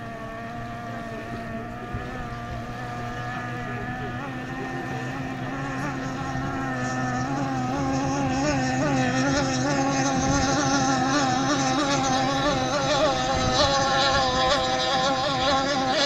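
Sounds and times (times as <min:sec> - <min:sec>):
racing boat motor at high revs: 0:00.0 - 0:16.0.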